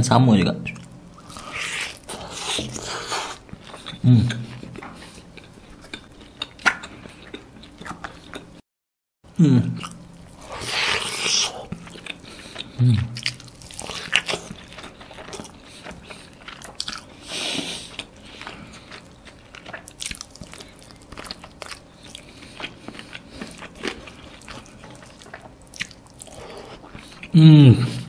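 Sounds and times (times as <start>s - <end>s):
person chewing food: 0.7s - 8.6s, 9.8s - 28.0s.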